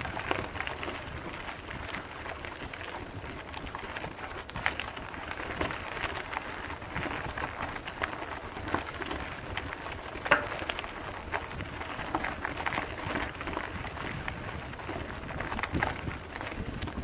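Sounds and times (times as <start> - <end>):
bike clicks and rattles: 0.0 - 17.0
tyres crunching over gravel: 0.0 - 17.0.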